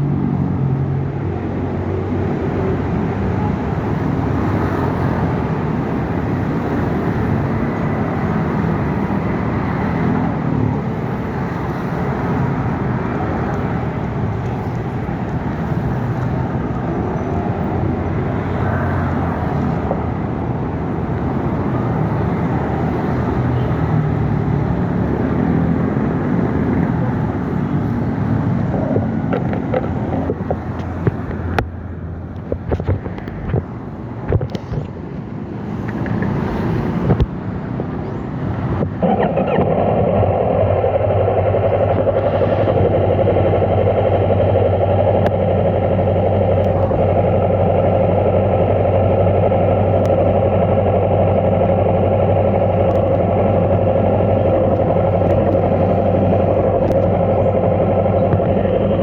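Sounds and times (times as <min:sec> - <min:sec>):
road traffic noise: 0:00.0 - 0:59.0
vehicle engine low hum: 0:00.0 - 0:59.0.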